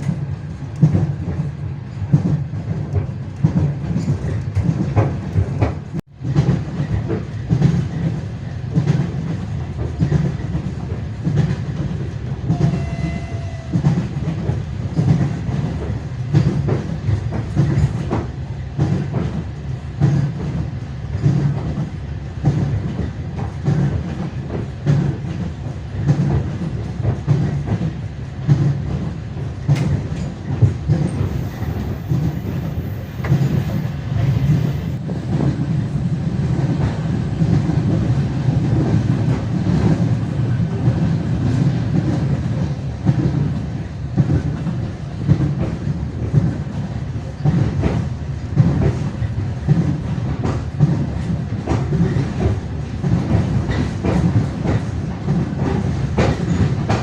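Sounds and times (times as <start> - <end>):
continuous train rumble: 0.0 - 57.0
train wheels clattering over joints: 0.0 - 57.0.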